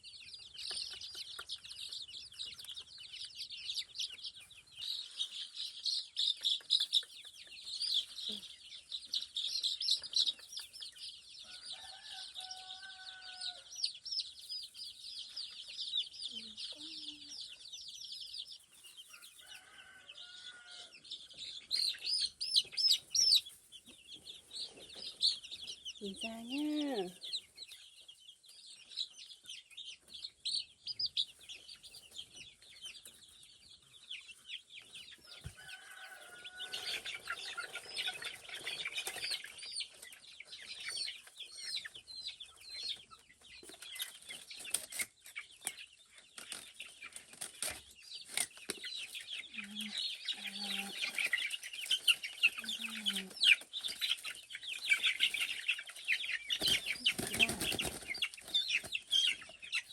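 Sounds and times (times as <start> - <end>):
chickens low calls: 0.0 - 14.6, 15.2 - 27.6, 34.3 - 59.9
chickens chirping: 0.0 - 59.9.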